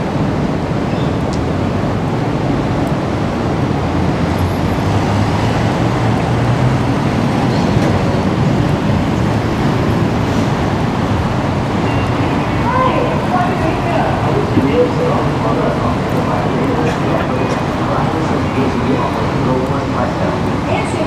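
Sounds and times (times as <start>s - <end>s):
street traffic noise: 0.0s - 21.0s
passing vehicle engine hum: 3.1s - 21.0s.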